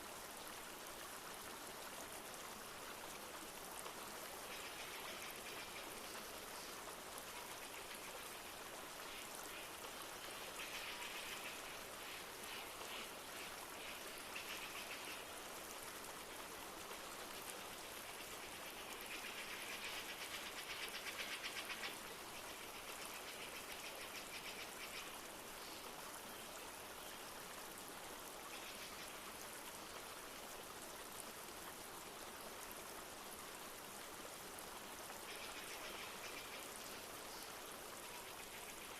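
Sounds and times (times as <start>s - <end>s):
light rain: 0.0s - 38.9s
stream flowing: 0.0s - 38.9s.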